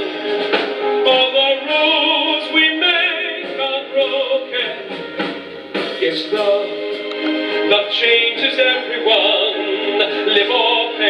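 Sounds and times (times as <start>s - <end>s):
live band playing: 0.0s - 11.0s
man singing ballad: 1.0s - 5.1s, 5.9s - 11.0s.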